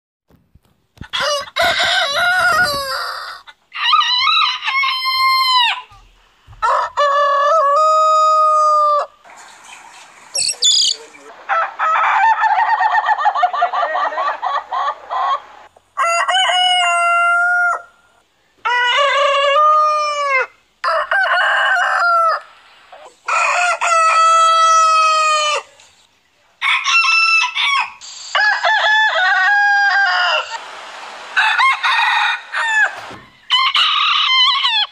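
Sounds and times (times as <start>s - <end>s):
roosters crowing: 1.0s - 25.8s, 26.6s - 34.9s.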